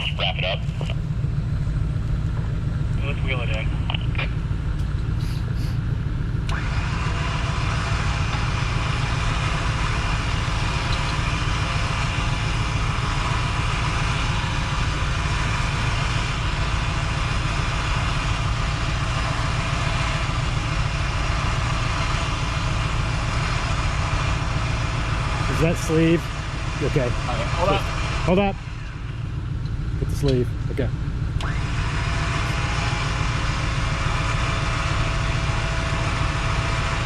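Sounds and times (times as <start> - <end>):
engine idling: 0.0 - 37.0
electric winch motor whirring: 4.8 - 30.0, 31.0 - 37.0.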